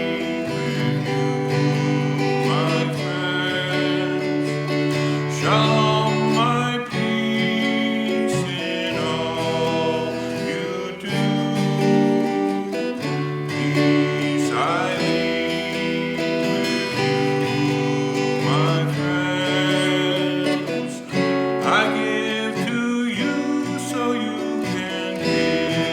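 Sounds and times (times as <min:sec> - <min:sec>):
acoustic guitar strumming: 0:00.0 - 0:25.9.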